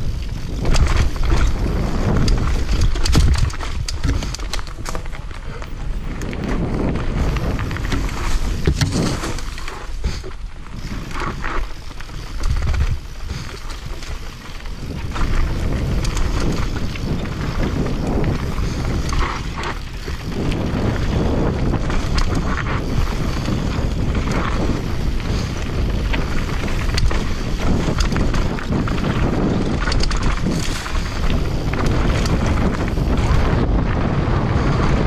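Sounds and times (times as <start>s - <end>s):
bike rattling and clicking: 0.0s - 35.0s
tyres rumbling over dirt and rock: 0.0s - 35.0s
wind noise on microphone: 0.0s - 35.0s.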